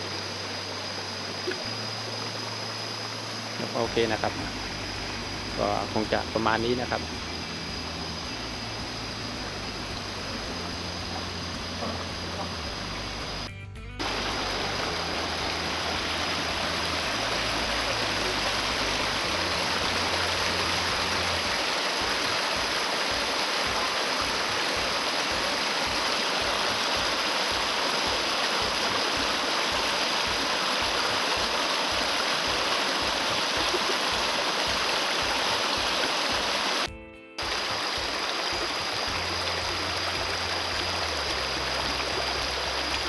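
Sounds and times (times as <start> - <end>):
stream running over stones: 0.0 - 13.4, 14.0 - 43.0.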